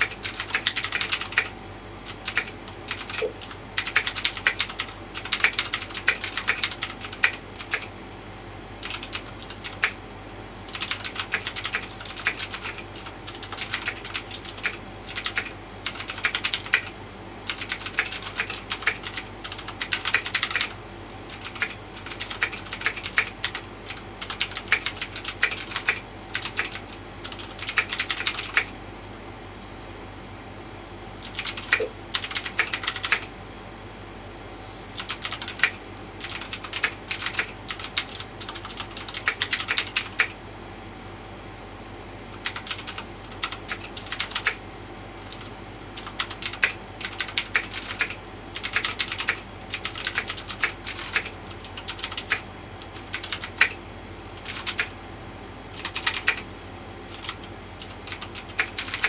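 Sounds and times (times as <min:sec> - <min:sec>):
mechanical keyboard typing: 0:00.0 - 0:07.9, 0:08.8 - 0:10.0, 0:10.7 - 0:28.8, 0:31.2 - 0:33.3, 0:35.0 - 0:40.4, 0:42.3 - 0:44.6, 0:45.3 - 0:53.8, 0:54.4 - 0:55.0, 0:55.7 - 0:56.5, 0:57.1 - 0:59.0.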